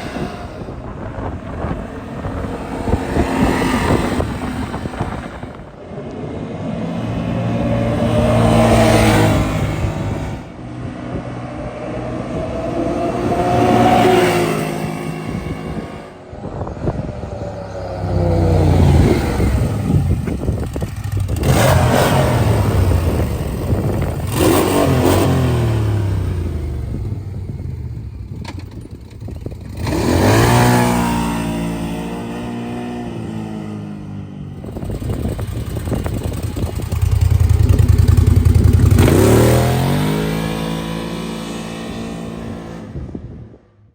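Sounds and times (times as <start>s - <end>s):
engine revving deep exhaust: 0.0s - 28.4s, 29.5s - 33.6s, 34.6s - 43.1s.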